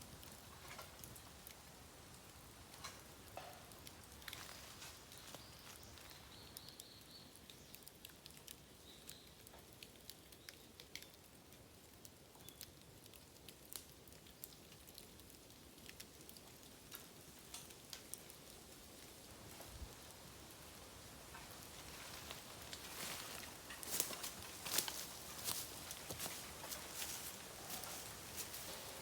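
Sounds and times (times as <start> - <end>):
fire crackling and popping: 0.0 - 29.0
soft sizzle: 0.0 - 29.0.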